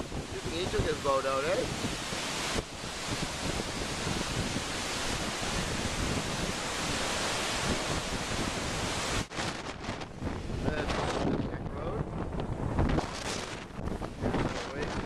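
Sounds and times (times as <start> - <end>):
surf crashing over rocks: 0.0 - 15.0
wind buffeting microphone: 0.0 - 15.0.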